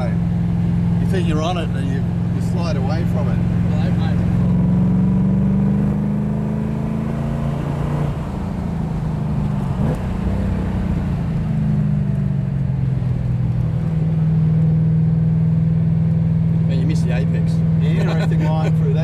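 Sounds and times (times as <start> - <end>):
car engine from inside cabin: 0.0 - 19.0.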